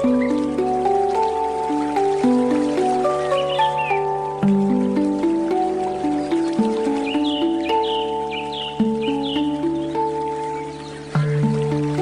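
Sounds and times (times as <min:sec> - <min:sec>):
bird calling high notes: 0:00.0 - 0:12.0
flowing water: 0:00.0 - 0:12.0
handpan notes ringing: 0:00.0 - 0:12.0.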